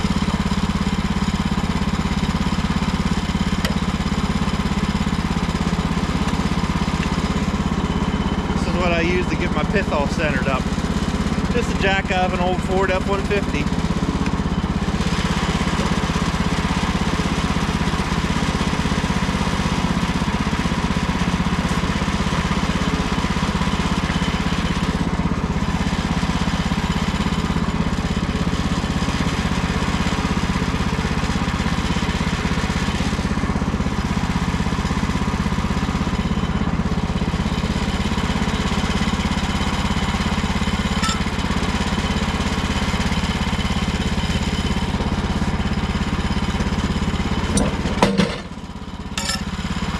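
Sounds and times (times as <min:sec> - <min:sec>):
gasoline engine running: 0:00.0 - 0:49.9.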